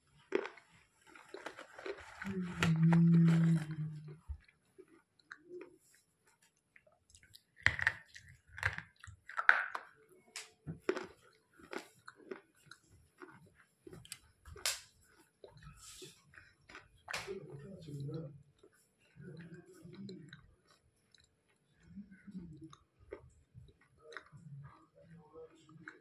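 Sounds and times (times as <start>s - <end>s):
person chewing with crunches: 0.0s - 10.0s, 10.6s - 26.0s.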